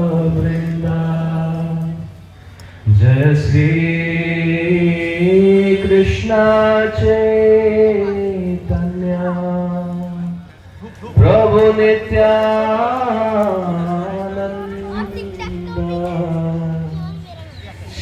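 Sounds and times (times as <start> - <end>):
man chanting amplified: 2.9 - 10.5, 11.2 - 18.0.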